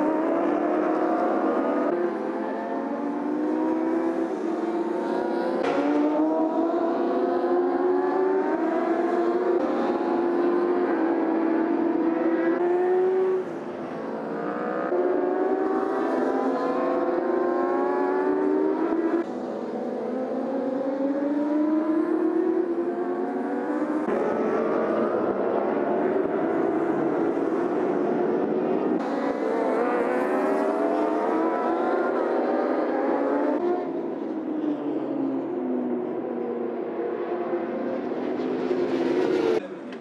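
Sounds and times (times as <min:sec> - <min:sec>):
racing motorcycle engines accelerating: 0:00.0 - 0:40.0.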